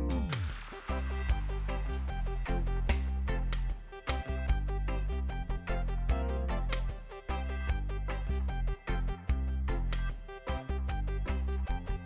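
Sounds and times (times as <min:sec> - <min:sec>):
plucked music over bass: 0:00.0 - 0:12.0.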